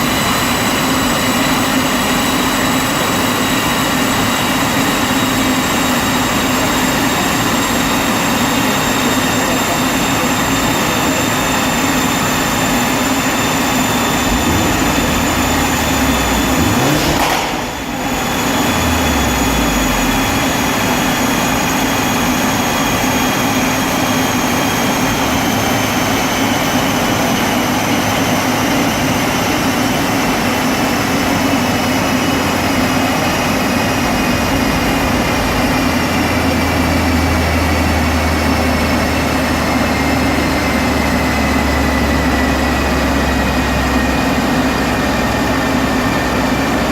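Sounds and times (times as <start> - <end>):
car engine whining on dyno: 0.0 - 46.9.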